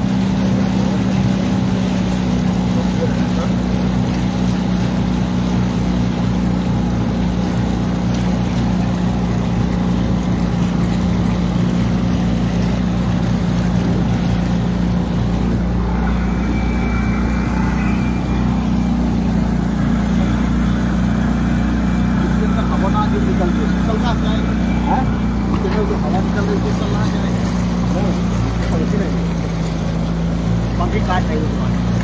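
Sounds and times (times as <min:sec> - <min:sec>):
outboard motor running: 0:00.0 - 0:32.0
rush of water: 0:00.0 - 0:32.0.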